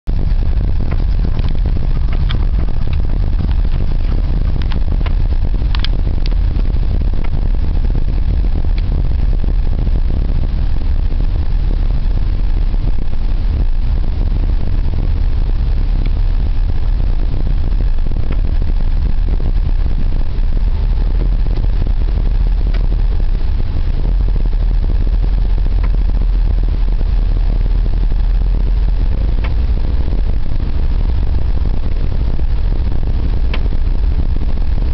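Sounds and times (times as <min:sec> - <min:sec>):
car engine low rumble: 0:00.0 - 0:34.9.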